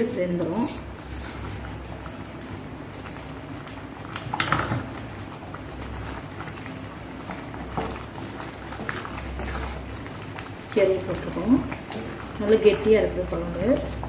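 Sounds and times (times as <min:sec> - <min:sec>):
pot simmering and bubbling: 0:00.0 - 0:14.0.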